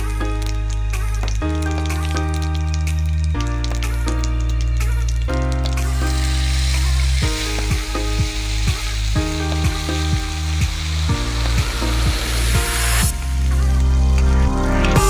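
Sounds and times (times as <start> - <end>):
background music with steady beat: 0.0 - 15.0
seeds sizzling in hot oil: 0.0 - 15.0.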